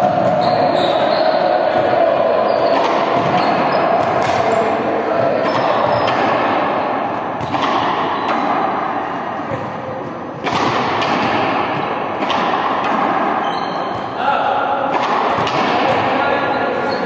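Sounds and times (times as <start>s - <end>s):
ball thuds in a hall: 0.0s - 17.0s.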